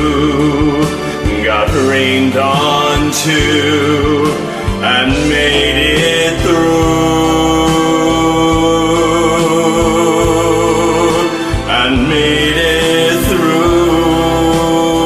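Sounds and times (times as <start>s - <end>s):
man singing with vibrato: 0.0s - 15.0s
pop ballad backing track: 0.0s - 15.0s.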